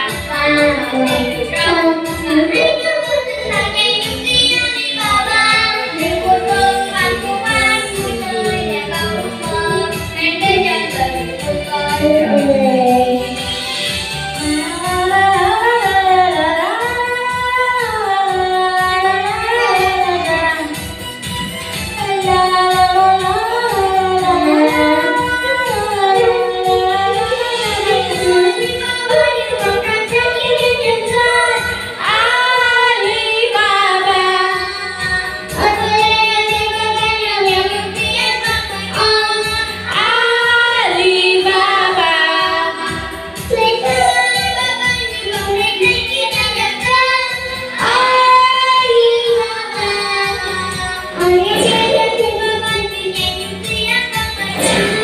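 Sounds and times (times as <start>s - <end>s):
child singing into toy microphone: 0.0s - 13.6s, 14.4s - 21.0s, 21.8s - 55.0s
children's song playing: 0.0s - 55.0s.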